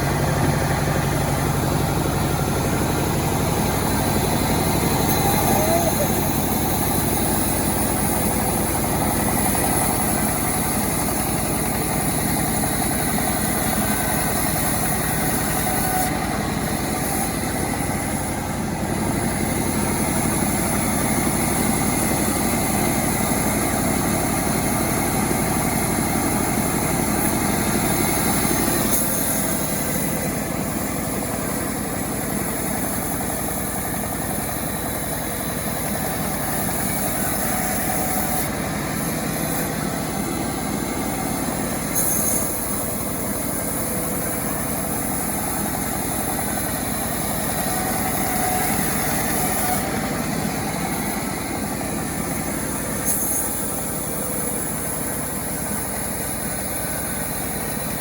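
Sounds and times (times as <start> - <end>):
chainsaw engine running: 0.0 - 58.0.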